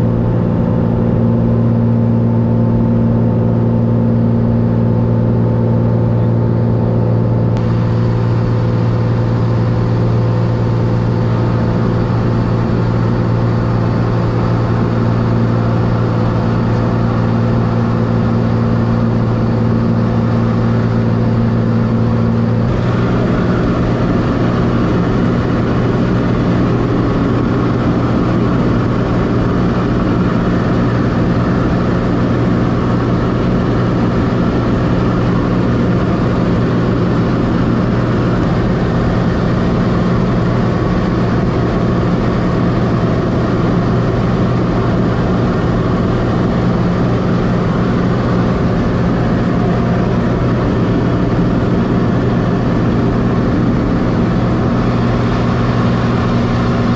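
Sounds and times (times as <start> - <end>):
light aircraft engine droning: 0.0 - 56.9.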